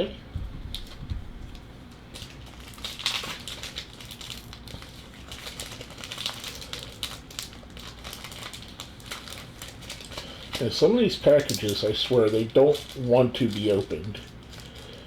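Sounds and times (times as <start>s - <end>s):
card pack wrapper crinkling: 2.1s - 15.0s.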